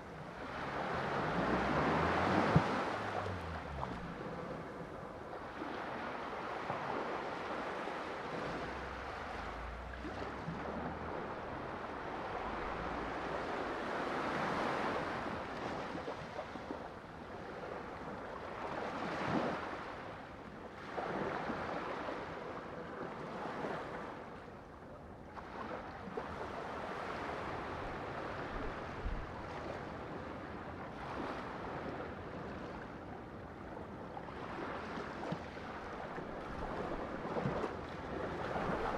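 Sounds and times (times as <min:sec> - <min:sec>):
sea waves washing in: 0:00.0 - 0:20.1, 0:25.4 - 0:38.9.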